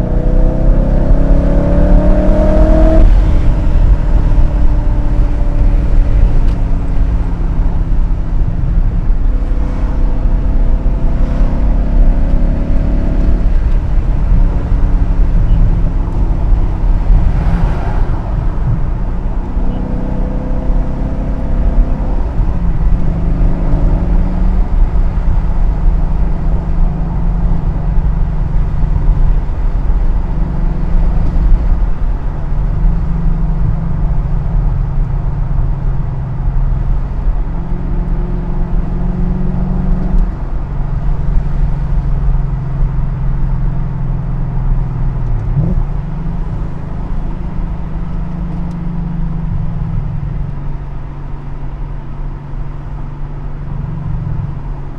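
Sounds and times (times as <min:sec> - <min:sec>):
car engine rumbling: 0:00.0 - 0:54.9.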